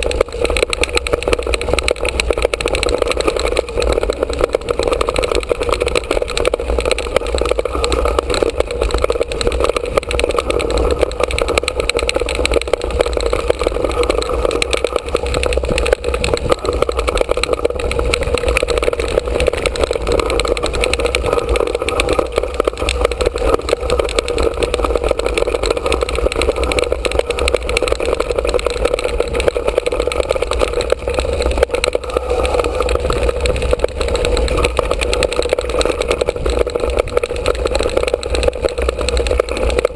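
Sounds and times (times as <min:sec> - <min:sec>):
bike rattling: 0:00.0 - 0:39.9
wind and tyre rumble: 0:00.0 - 0:39.9.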